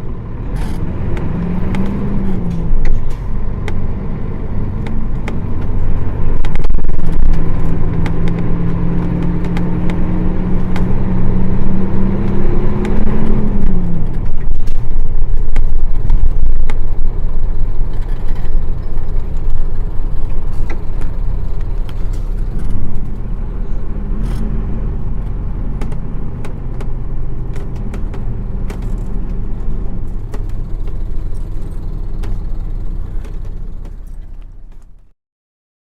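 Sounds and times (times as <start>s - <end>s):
bus diesel engine running: 0.0s - 35.1s.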